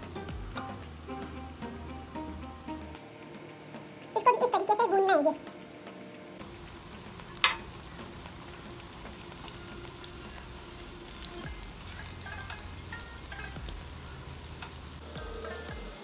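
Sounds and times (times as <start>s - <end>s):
oil sizzling while deep-frying: 0.0s - 16.0s.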